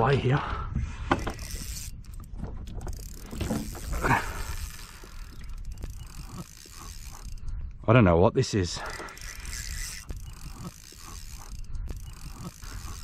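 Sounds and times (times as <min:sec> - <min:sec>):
fishing reel clicking and whirring: 0:01.0 - 0:07.9, 0:08.6 - 0:13.0.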